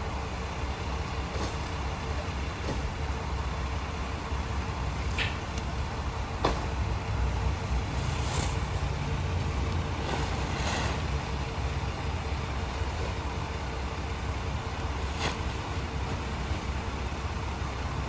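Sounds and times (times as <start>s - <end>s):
garbage truck engine running: 0.0s - 18.0s.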